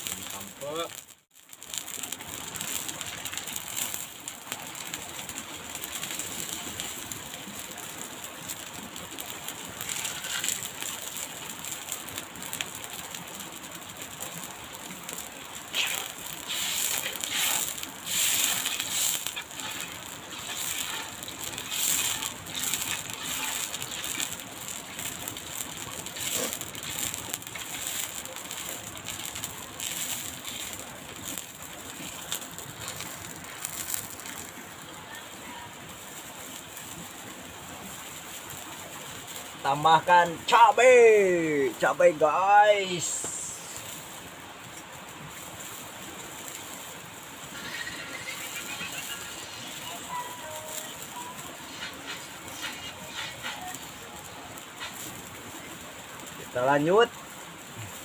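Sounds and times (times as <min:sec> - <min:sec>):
pot crackling and hissing over fire: 0:00.0 - 0:58.0.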